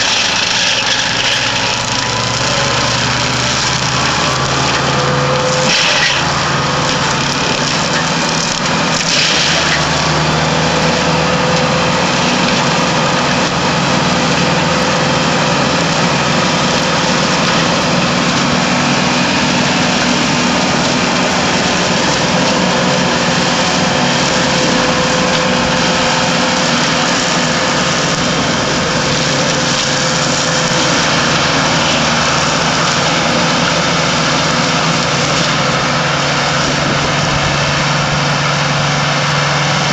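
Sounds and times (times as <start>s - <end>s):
mulcher shredding brush: 0.0s - 39.9s
tractor engine under load: 0.0s - 39.9s.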